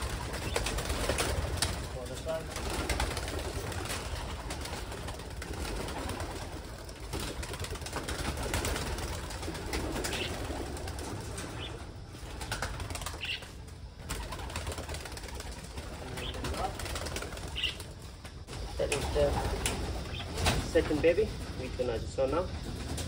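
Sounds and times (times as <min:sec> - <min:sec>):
pigeons cooing: 0:00.0 - 0:21.6
pigeons flapping wings: 0:00.0 - 0:21.8, 0:22.4 - 0:23.0.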